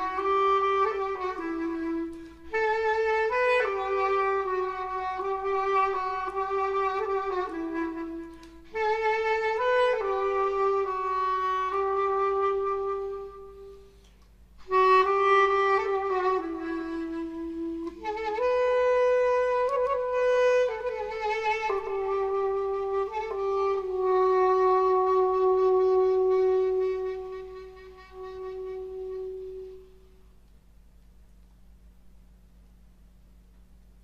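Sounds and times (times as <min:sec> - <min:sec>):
solo woodwind melody: 0:00.0 - 0:30.5.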